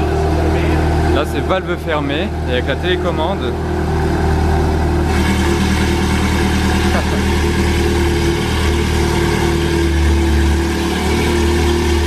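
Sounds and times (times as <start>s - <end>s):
car engine idling deep rumble: 0.0s - 12.0s.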